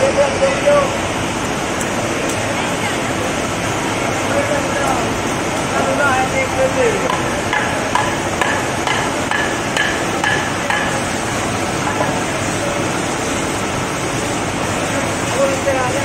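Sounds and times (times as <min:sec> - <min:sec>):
market background noise: 0:00.0 - 0:16.0.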